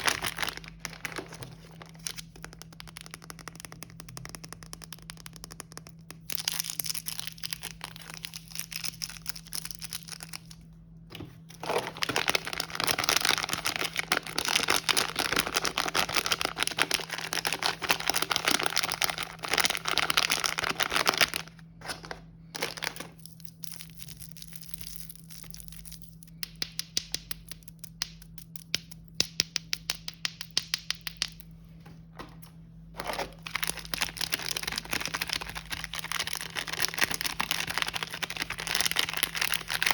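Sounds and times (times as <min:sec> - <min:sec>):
plastic packaging crinkling: 0:00.0 - 0:26.4, 0:33.0 - 0:39.9.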